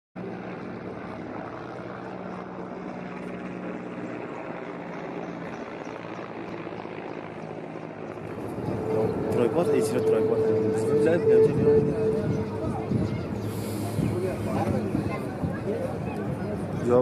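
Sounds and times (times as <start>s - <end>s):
helicopter rotor drone: 0.2s - 17.0s.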